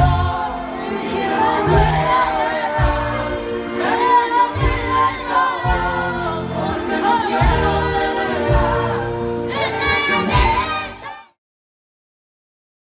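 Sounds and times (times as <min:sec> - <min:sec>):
live band playing: 0:00.0 - 0:11.3.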